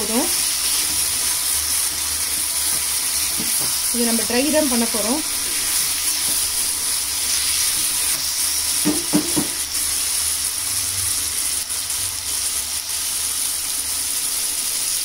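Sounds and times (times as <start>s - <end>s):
food sizzling in an iron pan: 0.0s - 15.0s.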